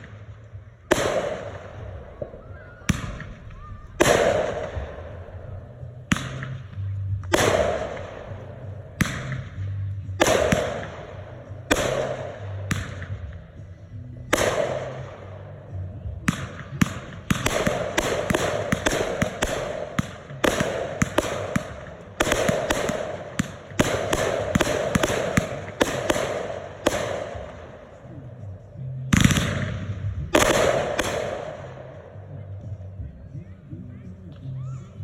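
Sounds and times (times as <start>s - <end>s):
firework bangs: 0.0s - 13.6s, 14.3s - 28.1s, 29.1s - 32.0s.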